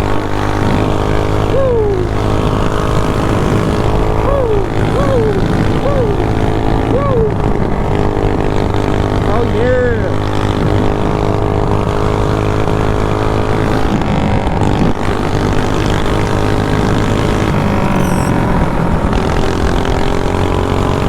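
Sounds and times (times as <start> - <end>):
mini bike engine running hard: 0.0 - 21.0.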